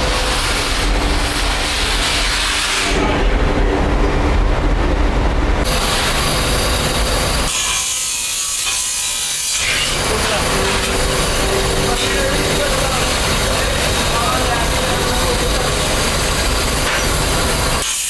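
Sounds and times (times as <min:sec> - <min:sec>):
metalworking machinery noise: 0:00.0 - 0:18.0.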